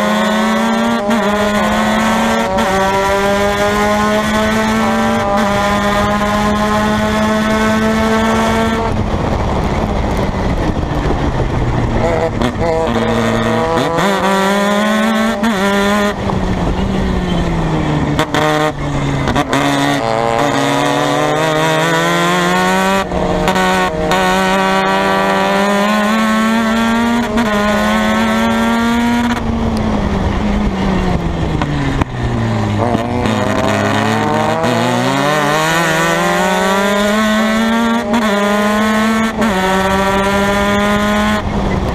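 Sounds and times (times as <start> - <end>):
race car engine shifting gears: 0.0 - 41.9.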